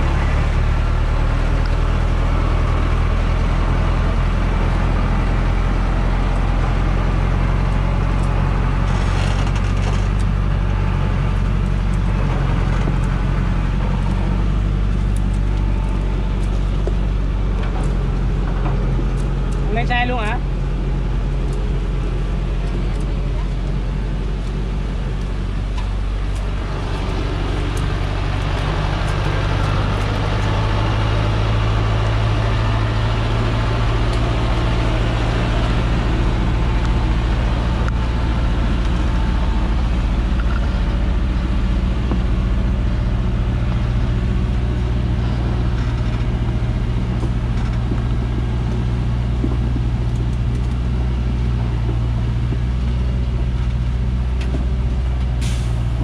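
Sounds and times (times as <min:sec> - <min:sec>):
truck diesel engine droning: 0:00.0 - 0:56.0.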